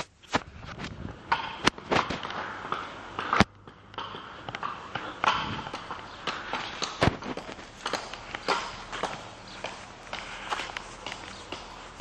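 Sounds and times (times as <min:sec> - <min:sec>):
footsteps on pavement: 0:00.3 - 0:12.0.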